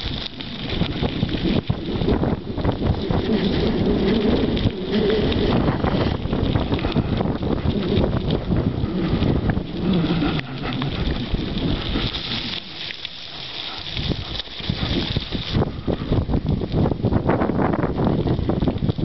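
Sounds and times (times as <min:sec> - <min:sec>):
bike rattling over rough trail: 0:00.0 - 0:19.0
wind buffeting microphone: 0:00.0 - 0:19.0.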